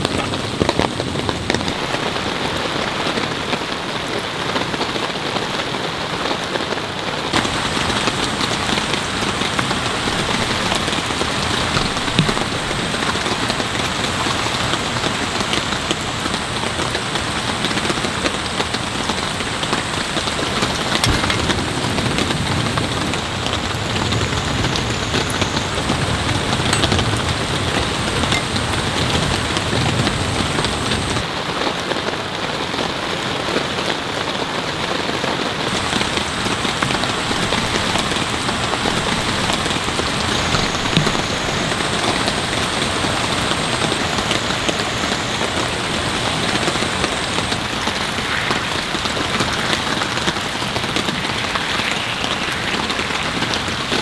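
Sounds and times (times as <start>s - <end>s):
raindrops striking surface: 0.0s - 5.2s, 7.3s - 31.4s, 35.6s - 54.0s
heavy rain falling: 0.0s - 54.0s.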